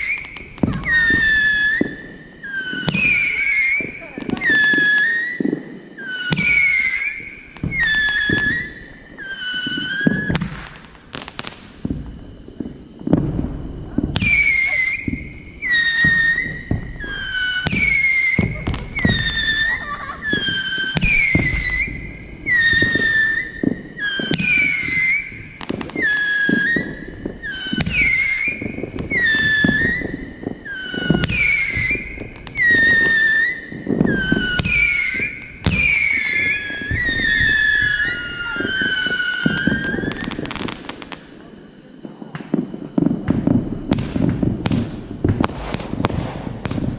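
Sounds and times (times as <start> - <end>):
whistling firework shots: 0.0 - 46.9.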